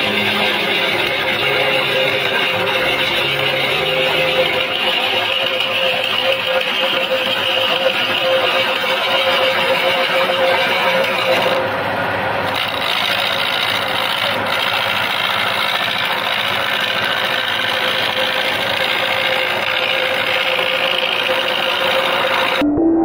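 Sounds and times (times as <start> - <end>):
chisel scraping wood: 0.0 - 11.6, 12.5 - 22.6
lathe motor hum: 0.0 - 22.6.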